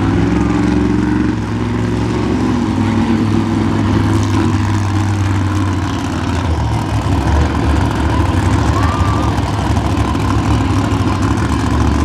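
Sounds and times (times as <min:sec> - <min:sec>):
truck engines running loud: 0:00.0 - 0:12.0.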